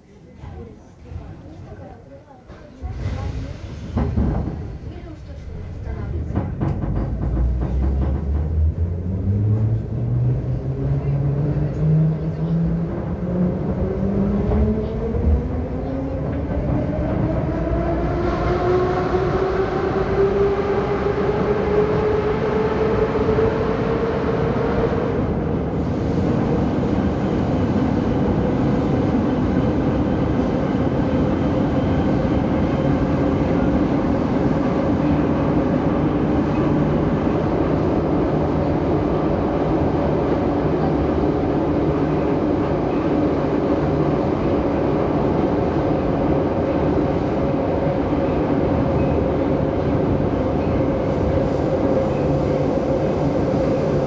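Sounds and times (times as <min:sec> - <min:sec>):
train wheels rumbling on track: 0:02.5 - 0:54.0.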